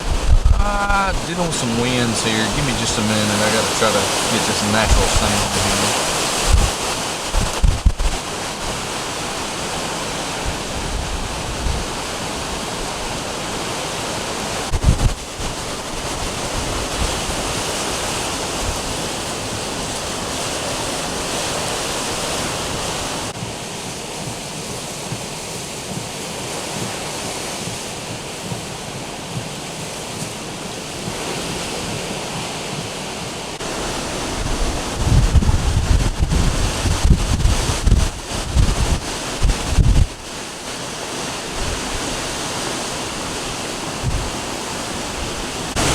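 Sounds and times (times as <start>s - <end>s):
breaking waves: 0.0s - 45.9s
gusts buffeting microphone: 0.0s - 45.9s
rushing wind: 0.0s - 45.9s.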